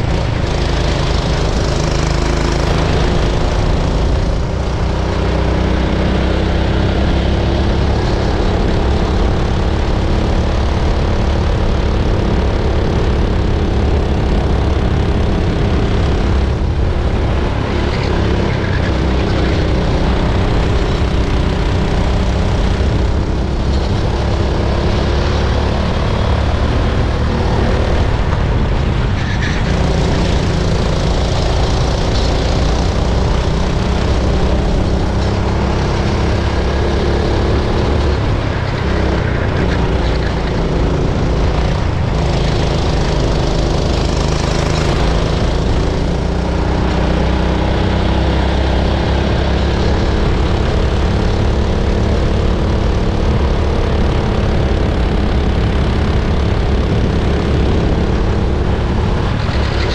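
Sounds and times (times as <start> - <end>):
kart engine revving under load: 0.0 - 59.9.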